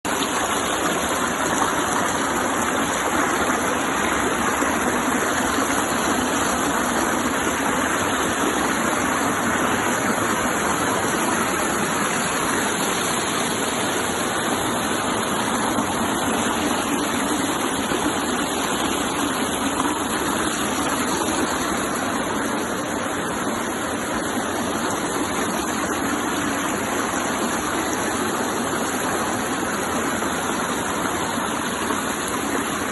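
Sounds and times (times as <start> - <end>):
waterfall roar: 0.0 - 32.9.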